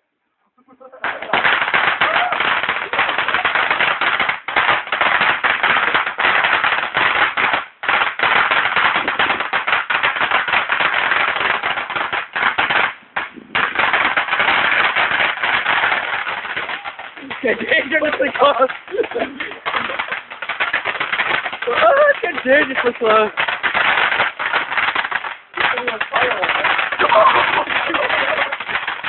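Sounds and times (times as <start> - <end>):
fireworks crackling: 0.8 - 29.0.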